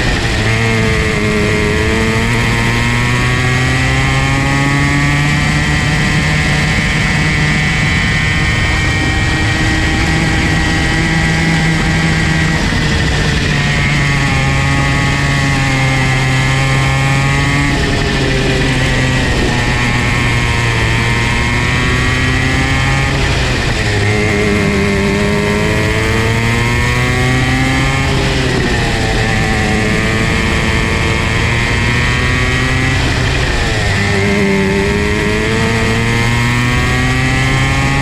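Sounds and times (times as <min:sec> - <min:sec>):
go-kart engine revving: 0:00.0 - 0:38.0.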